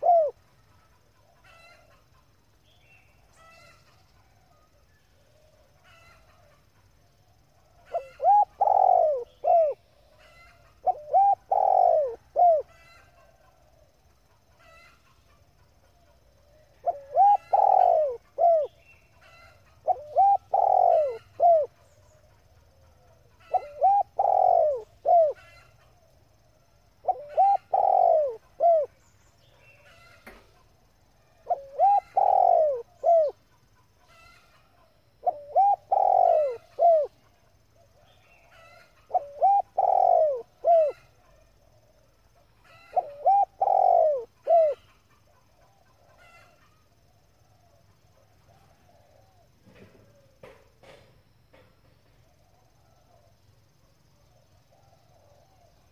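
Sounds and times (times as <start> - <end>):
dove cooing: 0.0 - 2.1, 7.4 - 29.0, 29.7 - 51.0.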